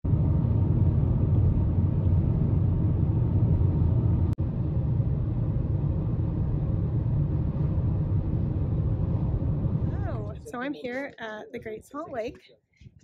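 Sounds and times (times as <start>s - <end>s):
car road and engine rumble: 0.0s - 10.7s.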